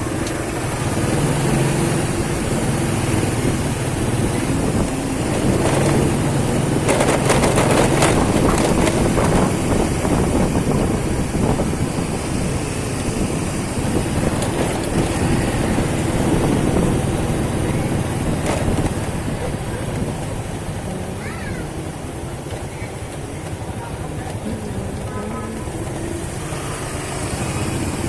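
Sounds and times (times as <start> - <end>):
motorcycle engine running: 0.0 - 28.0
wind rushing on microphone: 0.0 - 28.0.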